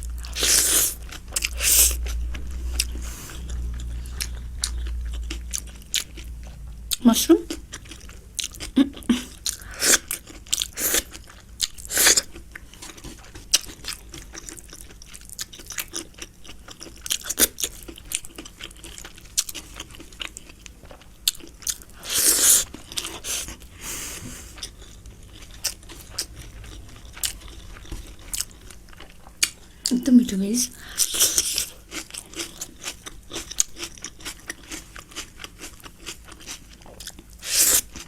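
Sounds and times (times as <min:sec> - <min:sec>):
person chewing crunchy food: 0:00.0 - 0:29.9, 0:30.7 - 0:38.0.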